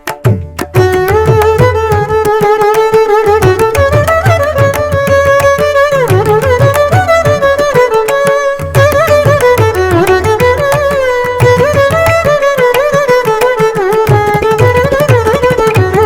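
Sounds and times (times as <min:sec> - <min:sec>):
mridangam drum rhythm: 0:00.0 - 0:16.0
sliding melody instrument: 0:00.0 - 0:16.0.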